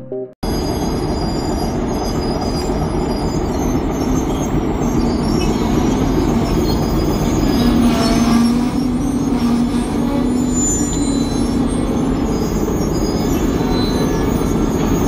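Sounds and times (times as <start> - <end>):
train rumbling and rattling on rails: 0.4 - 15.0.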